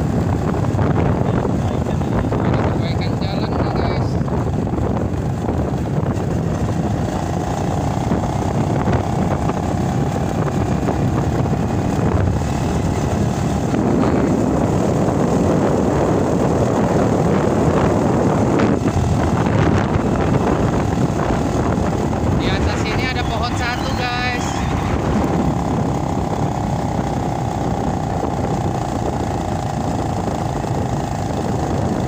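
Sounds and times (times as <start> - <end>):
motorbike engine running: 0.0 - 32.0
wind and road rush: 0.0 - 32.0.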